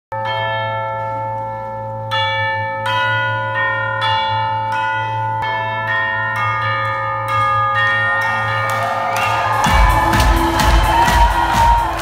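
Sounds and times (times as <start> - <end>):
bell-like struck notes: 0.2 - 12.0.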